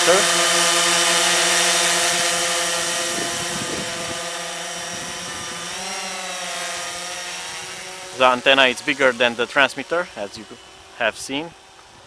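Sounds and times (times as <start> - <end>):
quadcopter motors humming: 0.0 - 12.0.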